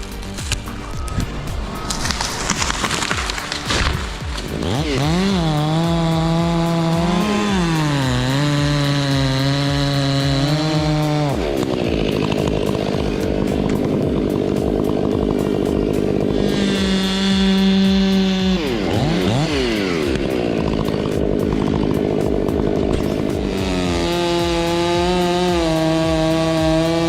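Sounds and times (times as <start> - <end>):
chainsaw engine cutting: 0.0 - 27.0.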